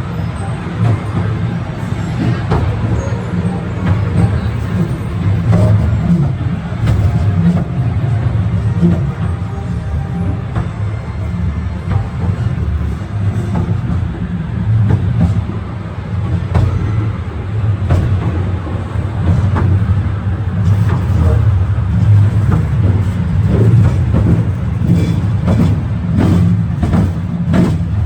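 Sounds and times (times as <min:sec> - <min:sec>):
carriage rumbling on track: 0:00.0 - 0:28.0.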